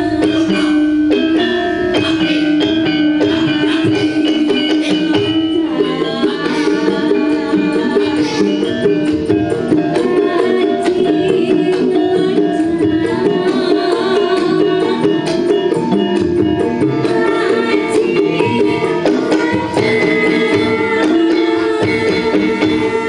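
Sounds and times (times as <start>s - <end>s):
gamelan ensemble over a pa: 0.0s - 23.0s
woman singing into a microphone: 0.0s - 23.0s.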